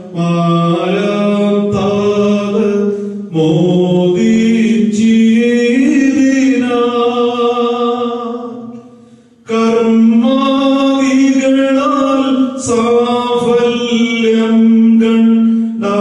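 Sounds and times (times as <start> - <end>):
man chanting a hymn: 0.0 - 16.0.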